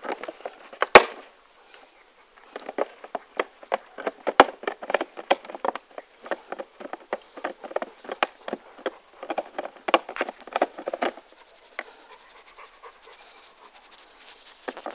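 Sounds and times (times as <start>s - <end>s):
light clicks and scratches: 0.0s - 14.9s.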